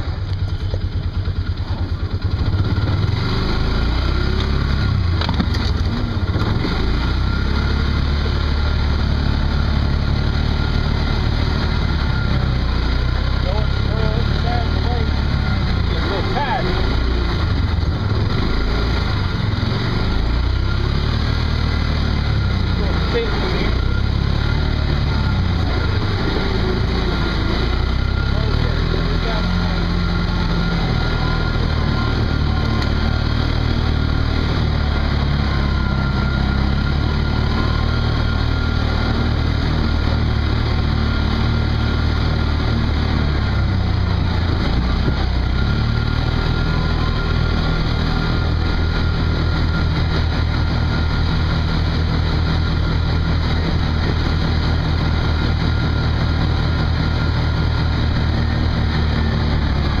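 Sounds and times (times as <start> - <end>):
off-road vehicle engine running: 0.0 - 60.0.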